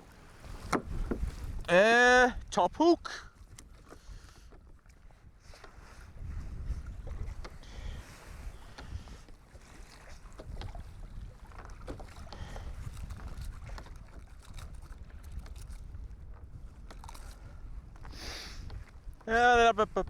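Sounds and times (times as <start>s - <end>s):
wind on microphone: 0.0s - 2.6s, 3.3s - 20.0s
water sloshing against kayak hull: 0.0s - 20.0s.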